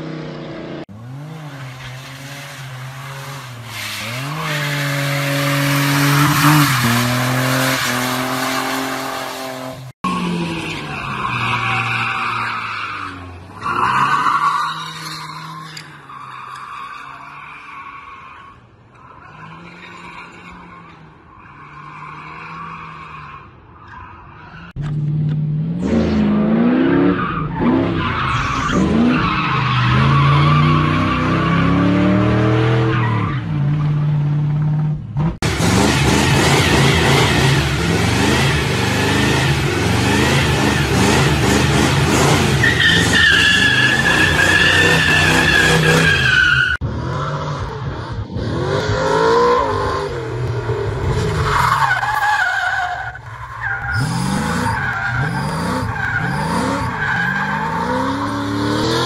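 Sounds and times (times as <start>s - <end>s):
engines revving: 0.0s - 17.4s, 24.6s - 59.0s
tyres squealing on pavement: 1.3s - 24.7s, 27.0s - 31.9s, 35.8s - 47.3s, 50.7s - 59.0s.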